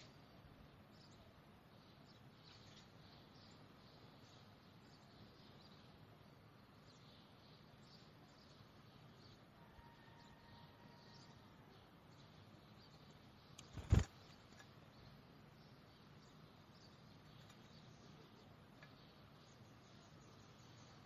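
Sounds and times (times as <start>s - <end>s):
low steady hiss: 0.0s - 21.0s
songbirds chirping: 0.0s - 21.0s.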